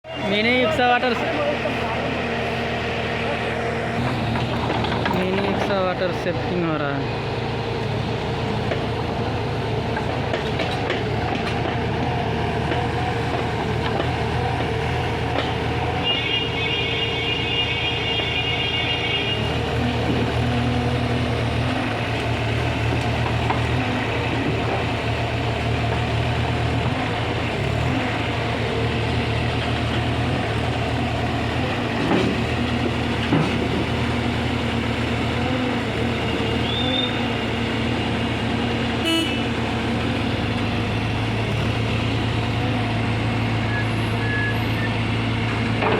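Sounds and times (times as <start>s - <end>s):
heavy diesel engine under load: 0.0s - 45.9s.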